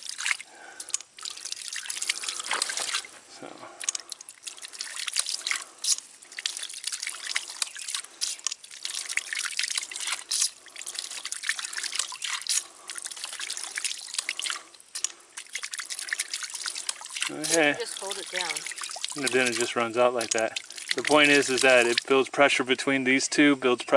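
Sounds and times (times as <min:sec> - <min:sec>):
water spurting and splashing: 0:00.0 - 0:23.7.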